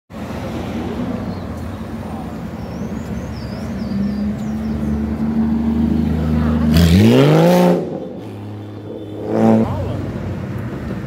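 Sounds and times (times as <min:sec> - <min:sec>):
cars driving past: 0:00.1 - 0:11.0.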